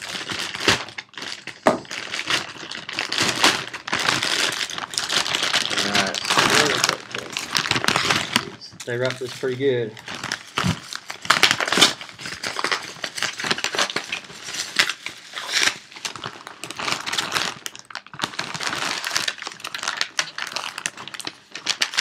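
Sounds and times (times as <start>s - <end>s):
packaging crinkling: 0.0s - 22.0s.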